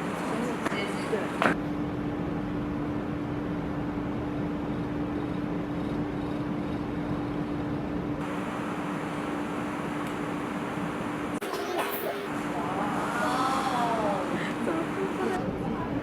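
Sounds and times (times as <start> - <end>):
mechanical hum and rumble: 0.0 - 16.0.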